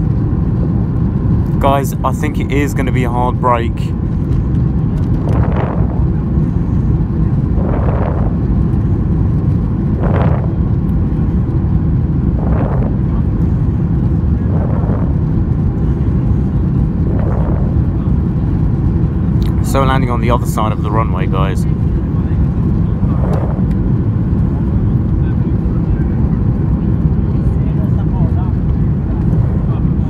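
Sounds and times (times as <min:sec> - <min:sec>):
jet engine roar in cabin: 0:00.0 - 0:30.0.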